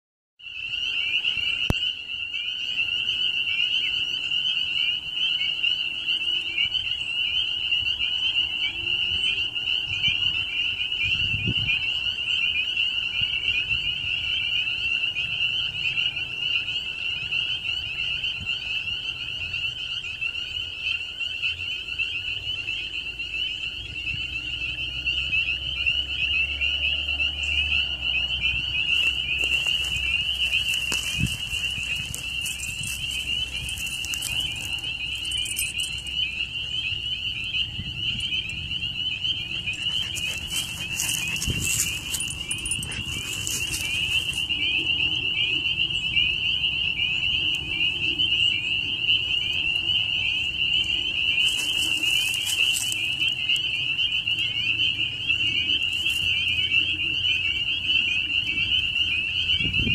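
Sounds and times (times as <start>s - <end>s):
chorus of frogs calling: 0.4s - 59.9s.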